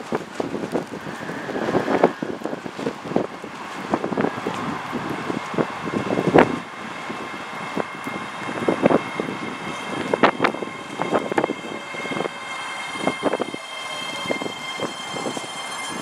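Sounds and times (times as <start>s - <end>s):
electric train whine: 0.0s - 16.0s
wind buffeting microphone: 0.0s - 16.0s.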